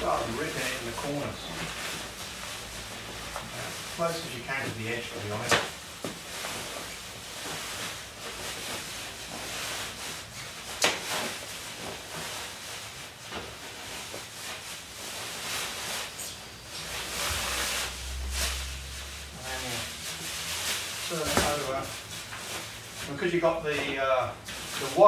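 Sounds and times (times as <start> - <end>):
fabric and foam rustling: 0.0 - 25.0.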